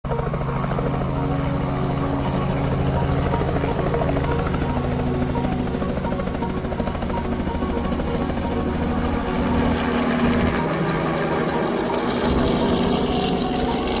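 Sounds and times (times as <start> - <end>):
helicopter rotor beating: 0.1 - 14.0.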